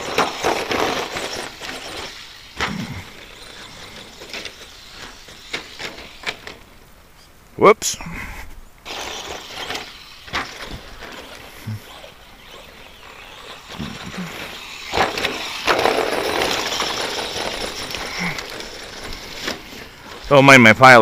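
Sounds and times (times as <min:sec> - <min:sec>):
rc truck motor and tyre noise: 0:00.0 - 0:07.3, 0:08.8 - 0:21.0.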